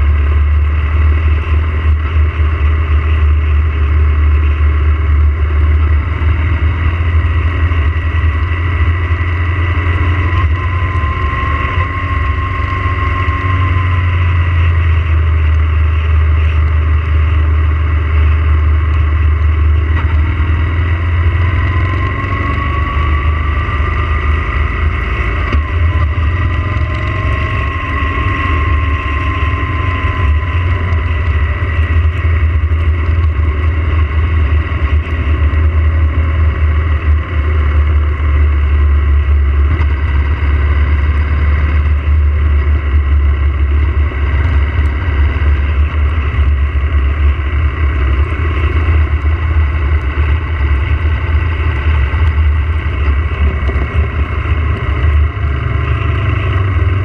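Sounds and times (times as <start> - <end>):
motorcycle engine rumbling: 0.0 - 57.0.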